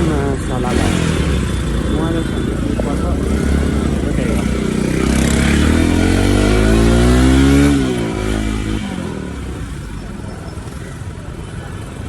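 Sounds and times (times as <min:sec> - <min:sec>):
motor scooter engine revving: 0:00.0 - 0:12.0.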